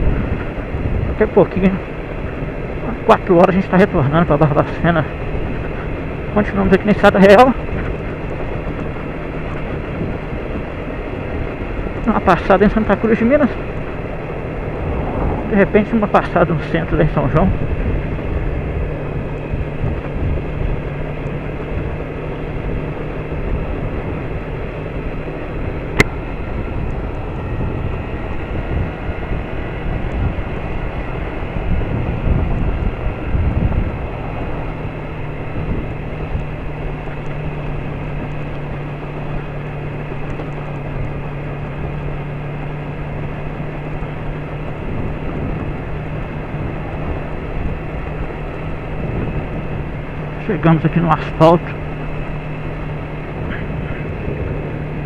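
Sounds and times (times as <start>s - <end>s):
motorcycle engine: 0.0s - 55.0s
wind and road rumble: 0.0s - 55.0s.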